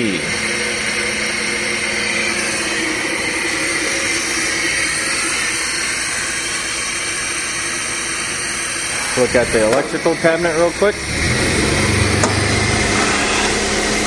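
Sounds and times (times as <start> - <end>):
low hum: 0.0 - 14.0
machining center whirring hiss: 0.0 - 14.0.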